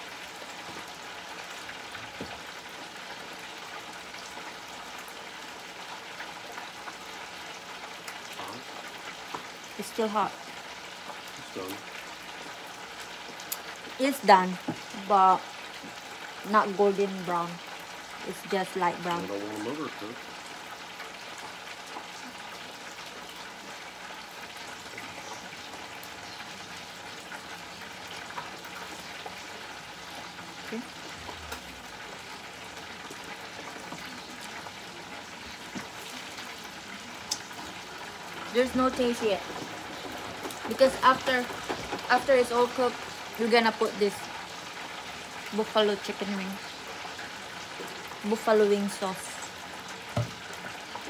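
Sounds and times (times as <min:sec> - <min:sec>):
wings frying in hot oil: 0:00.0 - 0:51.0.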